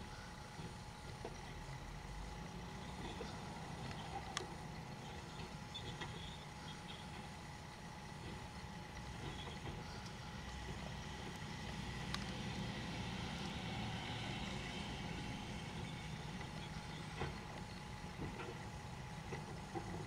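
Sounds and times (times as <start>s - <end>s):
garbage truck running: 0.6s - 20.0s
hydraulic cart tipper: 2.6s - 20.0s.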